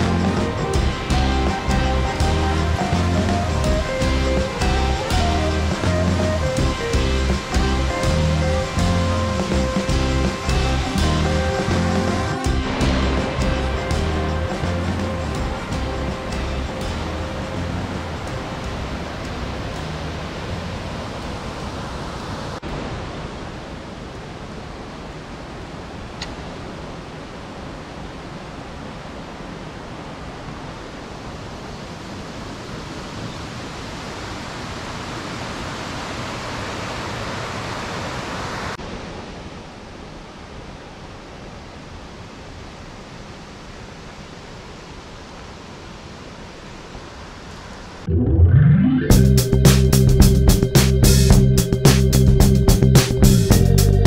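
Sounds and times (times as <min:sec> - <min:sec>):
stream water rushing: 0:00.0 - 0:48.1.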